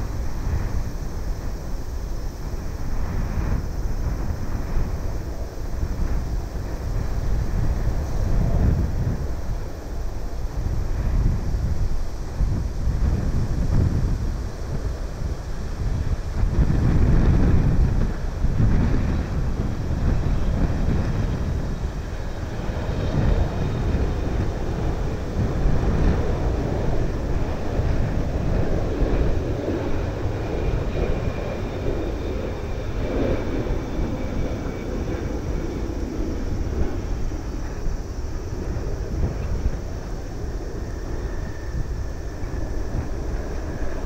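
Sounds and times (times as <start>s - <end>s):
jet engines rumbling: 0.0s - 44.0s
wind buffeting microphone: 0.0s - 44.0s.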